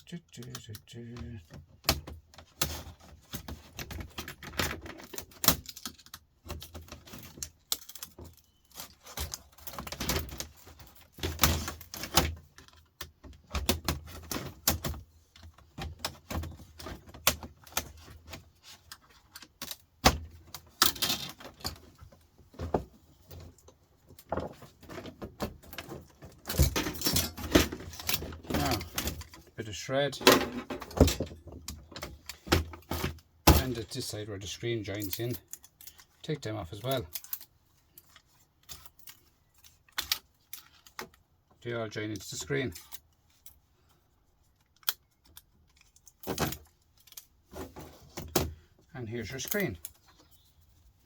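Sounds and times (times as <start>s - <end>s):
plastic and metal parts clattering: 0.0s - 51.0s.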